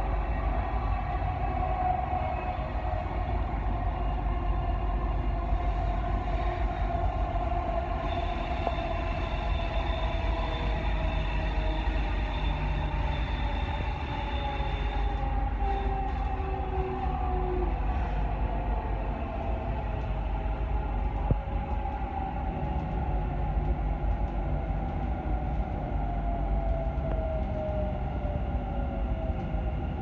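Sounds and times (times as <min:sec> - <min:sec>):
train rumble with running whine: 0:00.0 - 0:30.0.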